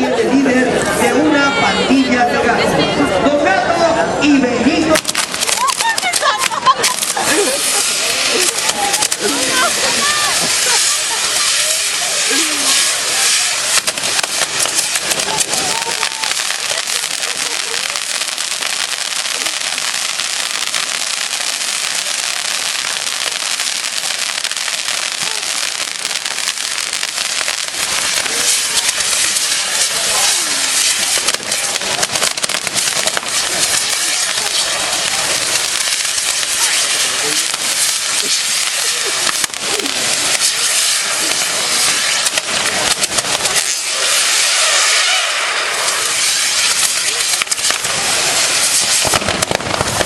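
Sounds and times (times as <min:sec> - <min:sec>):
firecrackers crackling: 0:00.0 - 0:50.0
steady hiss: 0:04.7 - 0:50.0.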